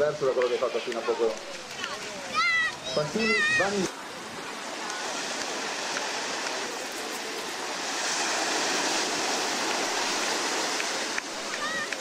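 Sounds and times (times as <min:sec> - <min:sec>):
small waves breaking at shoreline: 0:00.0 - 0:12.0
swimmers splashing in shallows: 0:00.0 - 0:12.0.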